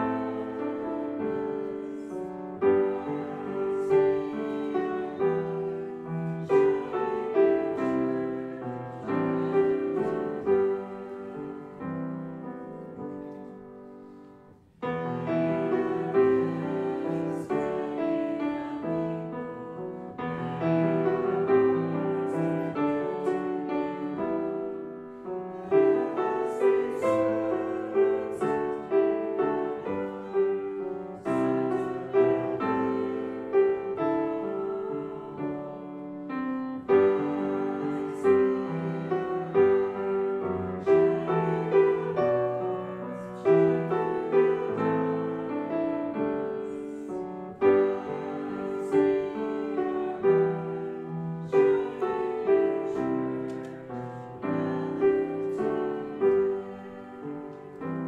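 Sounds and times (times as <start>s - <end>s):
piano playing hymn chords: 0.0s - 58.0s.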